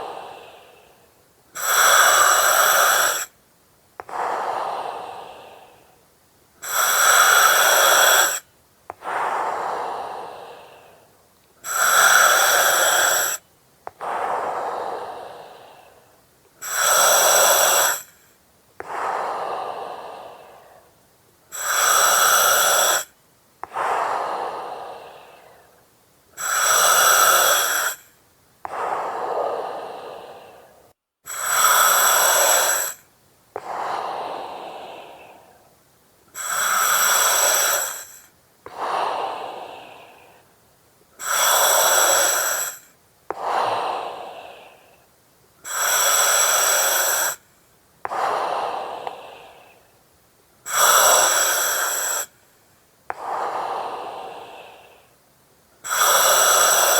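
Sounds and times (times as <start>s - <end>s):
breathing through oxygen mask: 0.0s - 1.0s, 1.6s - 3.4s, 6.6s - 8.4s, 9.0s - 25.8s, 26.4s - 35.7s, 36.3s - 40.5s, 41.2s - 49.9s, 50.7s - 52.4s, 53.1s - 55.2s, 55.8s - 56.9s.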